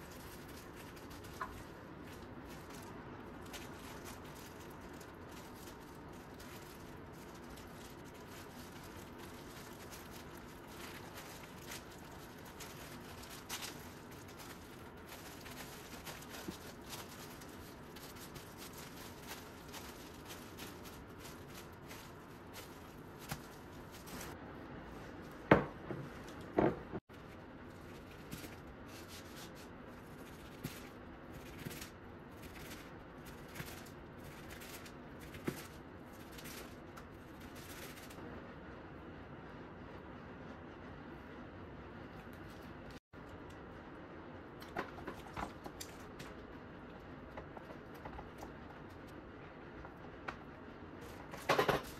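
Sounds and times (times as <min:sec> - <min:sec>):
rustling and scraping of rolling: 0:00.0 - 0:38.3, 0:44.5 - 0:51.9.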